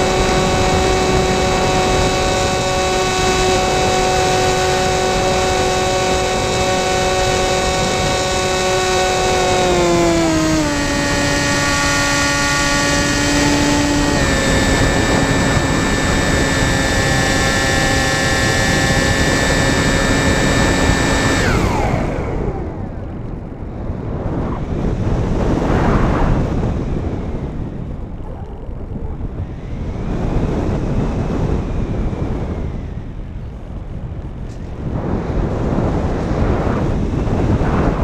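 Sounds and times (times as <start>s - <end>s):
electric motor propeller whine: 0.0s - 38.0s
wind rushing over camera: 0.0s - 38.0s.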